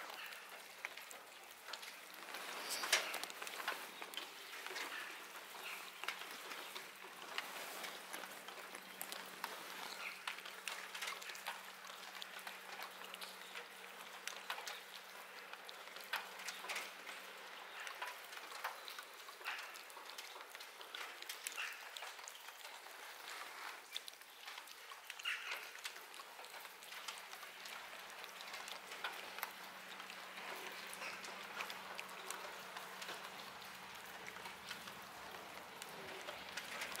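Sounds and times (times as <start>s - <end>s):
cat chewing and licking: 0.1s - 37.0s.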